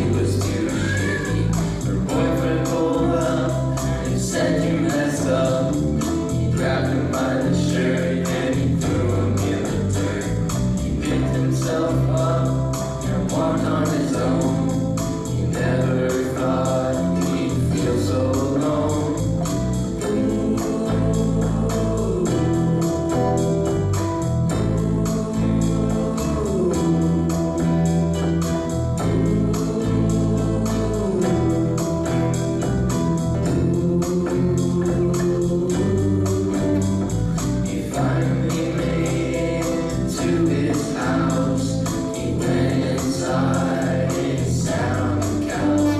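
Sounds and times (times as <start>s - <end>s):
live band with voices singing: 0.0s - 45.9s.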